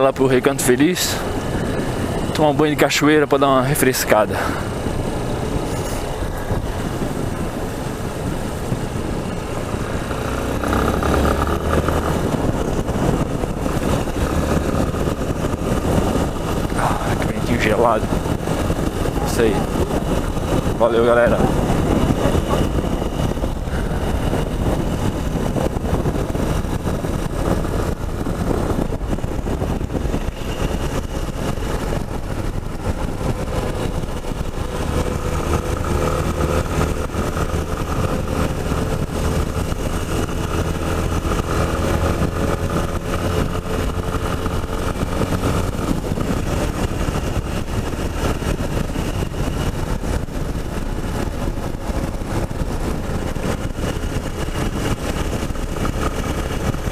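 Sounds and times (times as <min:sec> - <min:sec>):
motorcycle engine running: 0:00.0 - 0:56.9
wind rush on microphone: 0:00.0 - 0:56.9.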